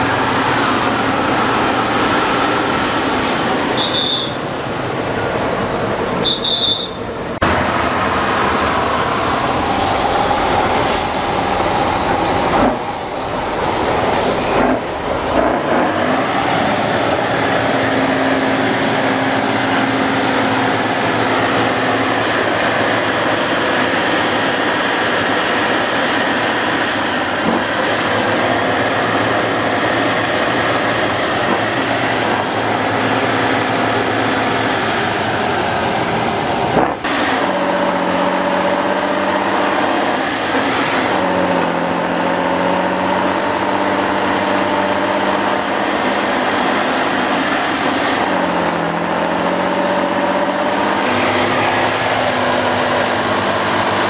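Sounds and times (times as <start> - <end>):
truck diesel engine revving: 0.0 - 54.0.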